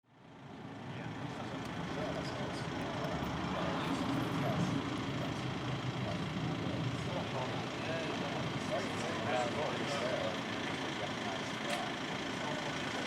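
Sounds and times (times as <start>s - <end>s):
road traffic rumble: 0.1s - 13.0s
faint voices: 0.8s - 13.0s.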